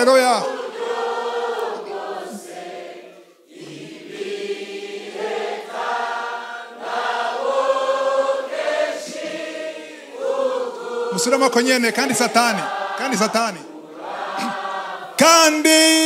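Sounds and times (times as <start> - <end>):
congregation singing a hymn: 0.0 - 16.0.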